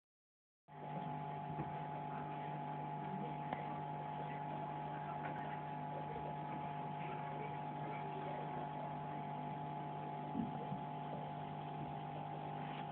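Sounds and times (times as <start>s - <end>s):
aquarium pump humming: 0.7s - 12.9s.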